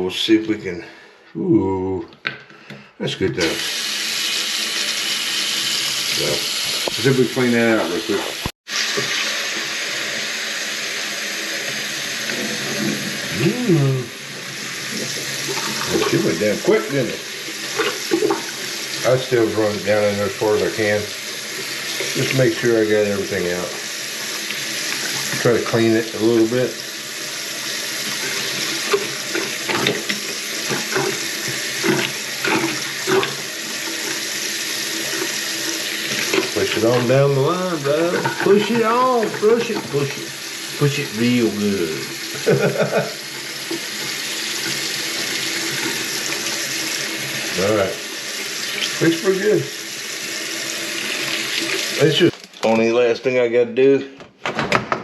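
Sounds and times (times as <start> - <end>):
faucet running into a sink: 3.2 - 53.0.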